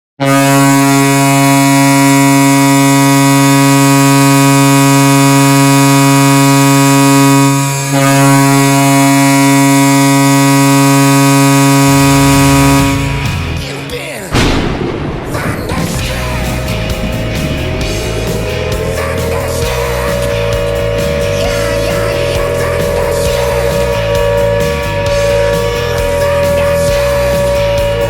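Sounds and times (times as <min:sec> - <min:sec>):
hockey goal horn: 0:00.2 - 0:13.6, 0:16.3 - 0:28.0.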